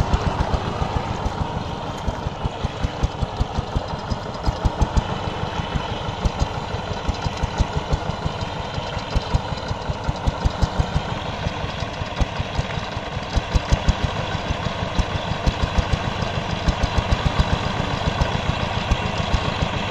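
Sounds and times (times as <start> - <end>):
diesel engine chugging: 0.0 - 19.9.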